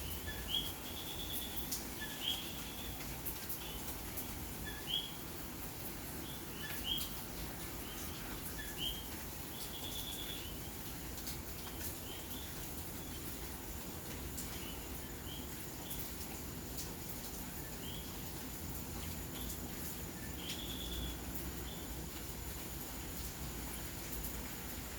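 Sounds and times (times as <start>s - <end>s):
steady rain hissing: 0.0s - 24.9s.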